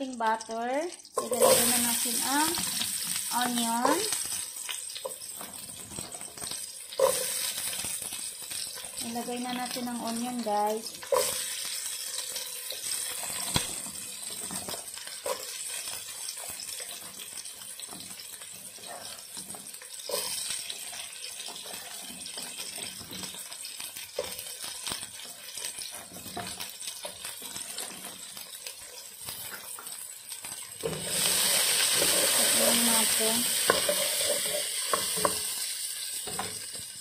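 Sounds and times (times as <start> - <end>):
onions sizzling in butter: 0.0 - 37.0.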